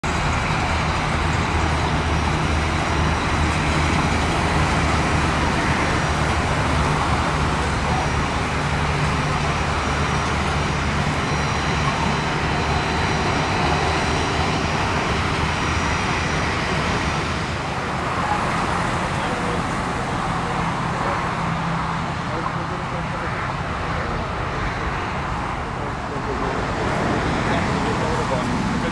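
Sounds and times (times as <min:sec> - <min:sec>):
vehicle engine hum: 0:00.0 - 0:28.9.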